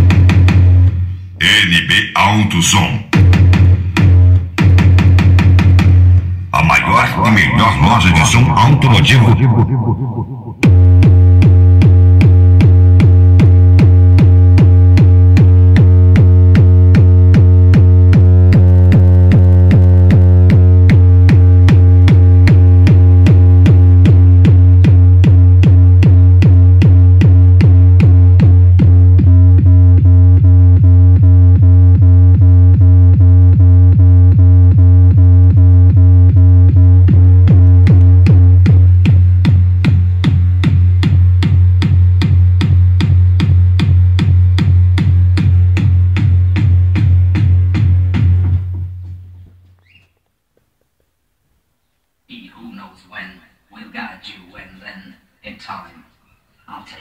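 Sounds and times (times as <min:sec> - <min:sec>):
fast drum-machine beat: 0:00.0 - 0:49.0
loud electronic music: 0:00.0 - 0:49.0
deep bass note: 0:03.1 - 0:49.0.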